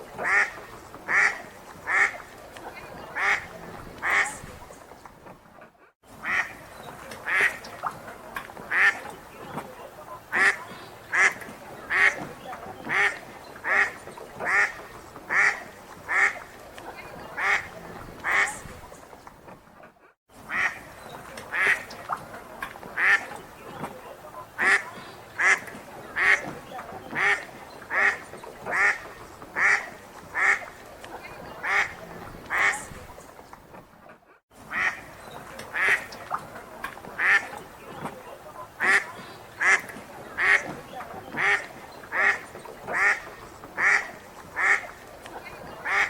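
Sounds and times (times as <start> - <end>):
ducks quacking loudly: 0.2 - 2.3, 2.9 - 4.6, 6.1 - 8.0, 8.6 - 16.5, 17.1 - 18.7, 20.4 - 33.1, 34.6 - 46.0
soft duck calls: 0.2 - 4.6, 6.2 - 18.6, 20.4 - 33.2, 34.6 - 46.0.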